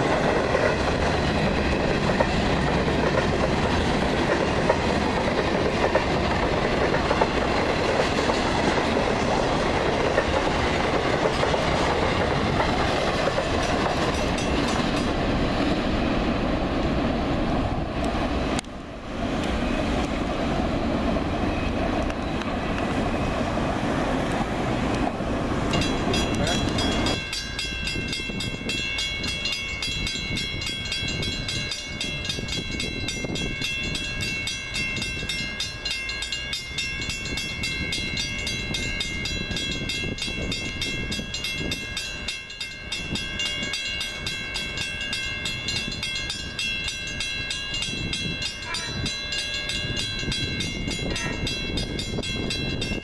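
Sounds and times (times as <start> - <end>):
crossing bell ringing: 0.0 - 16.5, 25.7 - 53.0
freight cars rumbling on rails: 0.0 - 53.0.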